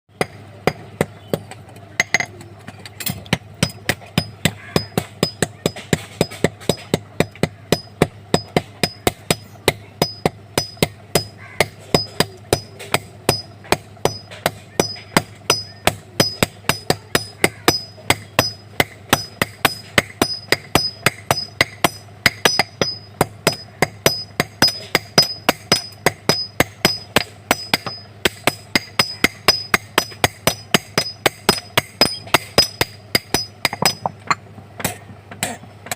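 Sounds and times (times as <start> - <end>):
hammer striking metal on anvil: 3.0 - 35.6.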